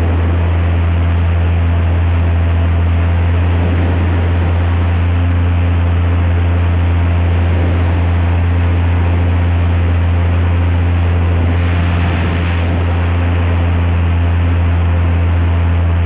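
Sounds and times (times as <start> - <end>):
airboat engine and propeller drone: 0.0 - 16.0.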